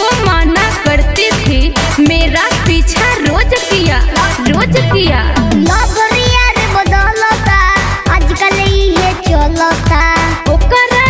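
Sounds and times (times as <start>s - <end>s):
stepped melody line: 0.0s - 9.4s
rap beat with deep bass drum: 0.0s - 11.0s.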